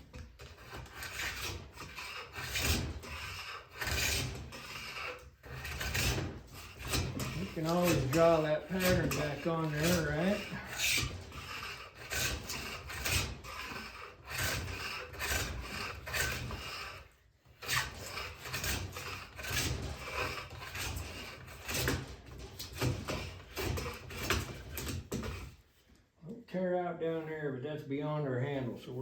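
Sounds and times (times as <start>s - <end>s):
hand plane shaving wood: 0.0s - 25.7s.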